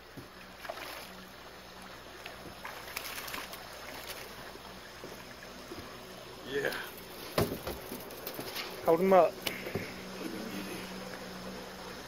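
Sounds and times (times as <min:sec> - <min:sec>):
faint water noise: 0:00.0 - 0:12.0.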